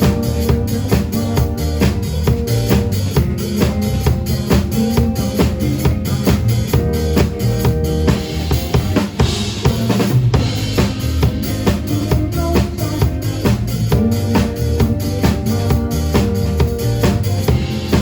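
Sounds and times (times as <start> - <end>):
drum kit beat: 0.0 - 18.0
live band playing instrumental: 0.0 - 18.0.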